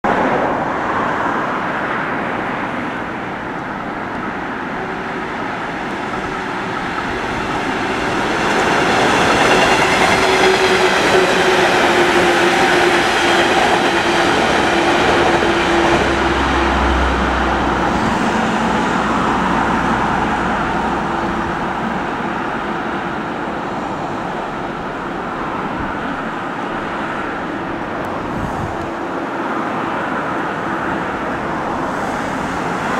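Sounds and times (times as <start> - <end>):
electric train passing: 0.2 - 32.9.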